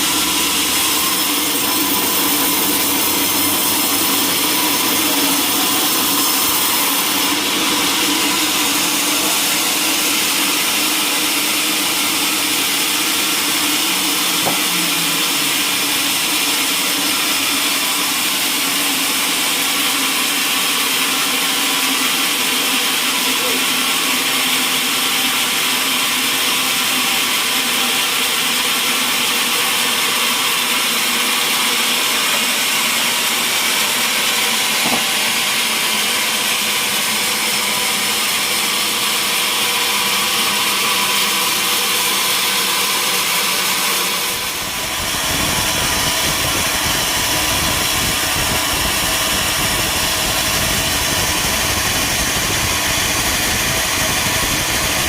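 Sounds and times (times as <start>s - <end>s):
sawmill machinery whining: 0.0s - 55.0s.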